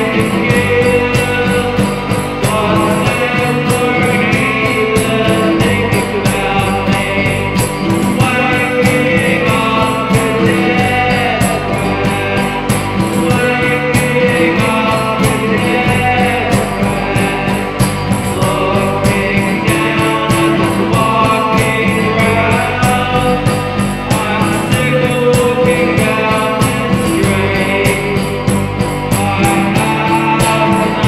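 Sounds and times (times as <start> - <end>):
rock song with guitar organ drums: 0.0 - 31.0.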